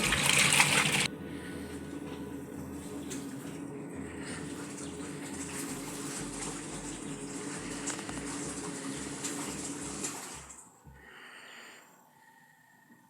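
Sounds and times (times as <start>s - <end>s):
washing machine churning water: 0.0s - 11.1s.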